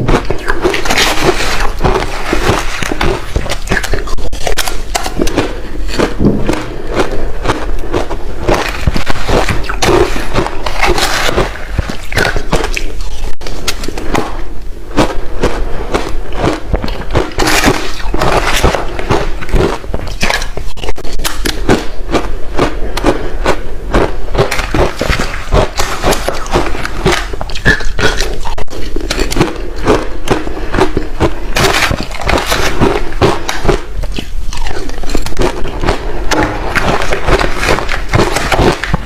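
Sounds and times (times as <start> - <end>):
chewing crushed ice: 0.0 - 39.0.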